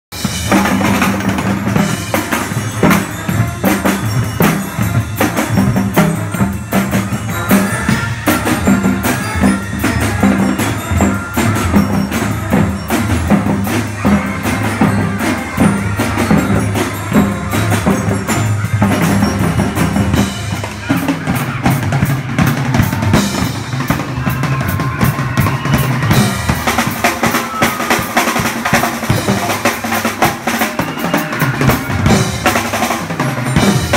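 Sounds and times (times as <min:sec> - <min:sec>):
drum kit beat: 0:00.1 - 0:33.9
marching snare and tenor drums: 0:00.1 - 0:33.9
saxophones clarinets and trumpets: 0:00.2 - 0:33.9.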